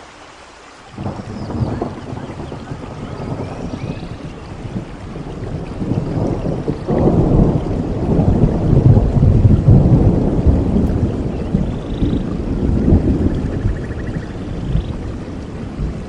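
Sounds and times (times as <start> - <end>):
steady rainfall: 0.0 - 16.0
thunder rumbling: 0.9 - 16.0.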